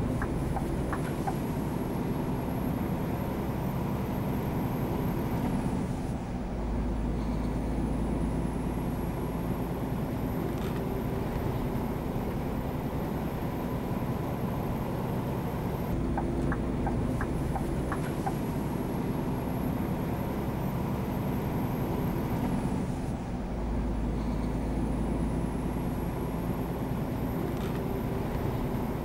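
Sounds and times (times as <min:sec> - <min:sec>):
truck diesel engine running: 0:00.0 - 0:29.0.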